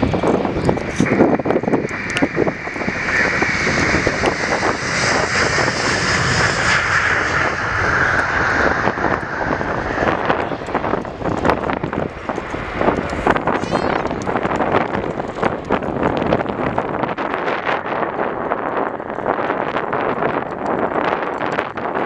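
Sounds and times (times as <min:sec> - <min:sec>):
jet engine whine: 0:00.0 - 0:22.0
jet engines roaring: 0:00.0 - 0:22.0
wind buffeting microphone: 0:00.0 - 0:22.0.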